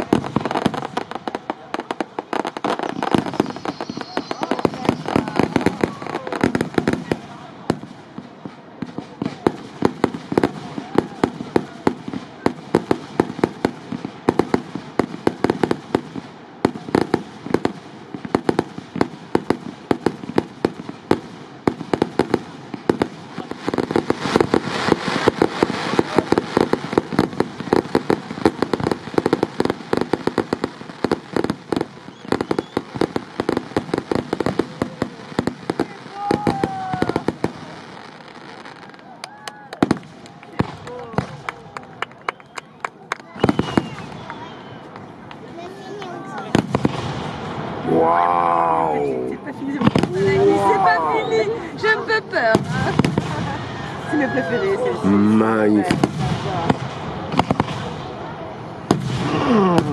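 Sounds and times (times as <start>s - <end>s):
fireworks bursts and crackling: 0.0s - 59.9s.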